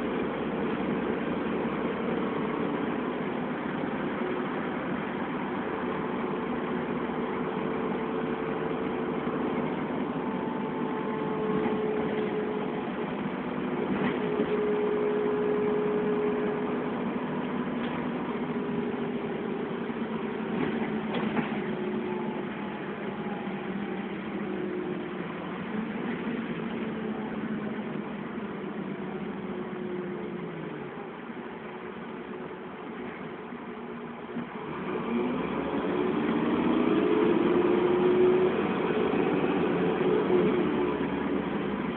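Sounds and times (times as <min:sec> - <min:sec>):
bus engine running: 0:00.0 - 0:41.9.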